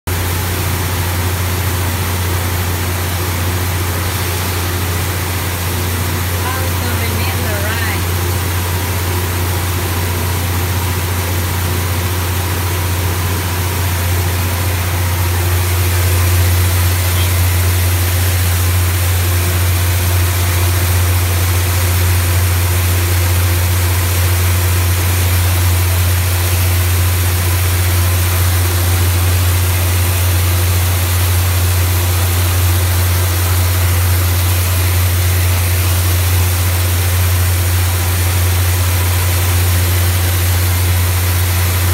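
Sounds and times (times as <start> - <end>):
milling machine humming: 0.1 - 41.9.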